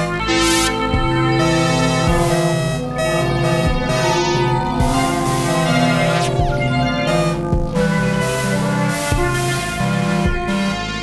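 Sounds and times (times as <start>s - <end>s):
synthesizer chords: 0.0s - 11.0s
low bass line: 0.1s - 10.5s
falling synth sweep: 0.2s - 9.7s.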